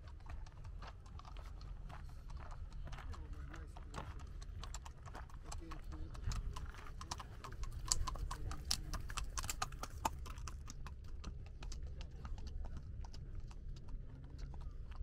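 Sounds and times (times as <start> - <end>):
hooves clip-clopping on concrete: 0.0 - 15.0.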